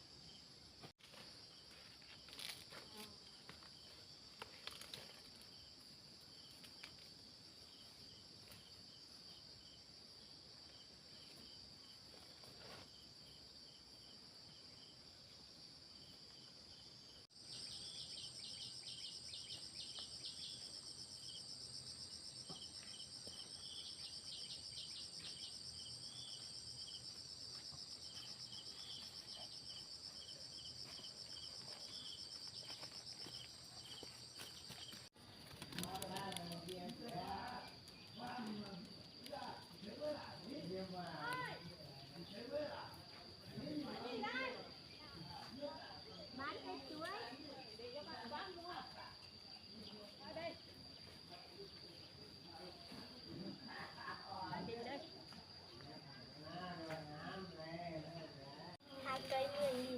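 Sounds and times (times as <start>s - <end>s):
insect chorus chirping: 0.0s - 59.9s.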